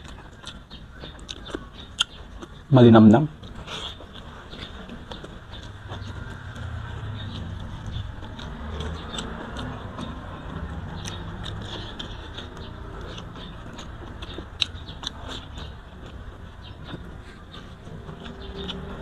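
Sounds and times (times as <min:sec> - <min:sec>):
person chewing: 0:00.0 - 0:02.6, 0:03.4 - 0:19.0.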